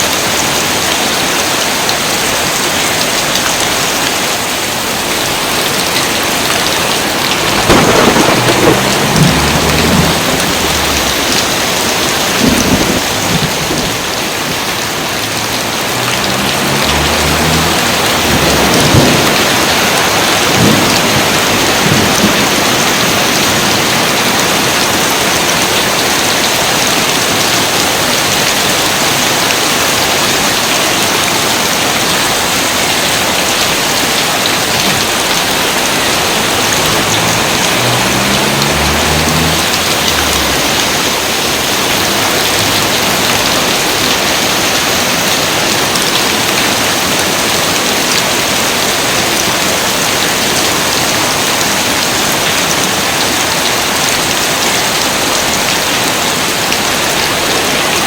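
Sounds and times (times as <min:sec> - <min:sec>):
steady dense rain: 0:00.0 - 0:58.0.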